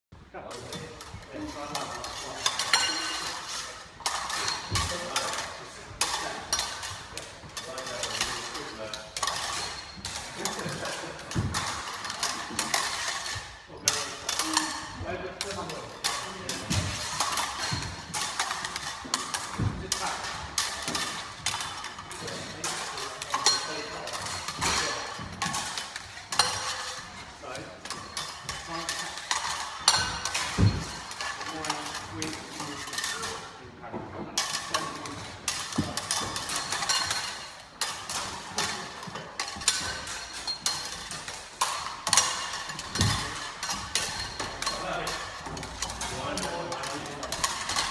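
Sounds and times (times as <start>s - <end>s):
blades clashing: 0.4s - 47.9s.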